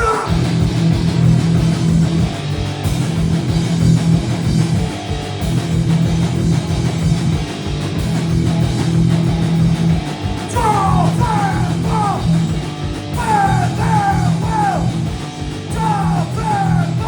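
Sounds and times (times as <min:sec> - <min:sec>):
bass guitar: 0:00.0 - 0:17.0
distorted electric guitar chords: 0:00.0 - 0:17.0
drums: 0:00.0 - 0:17.0.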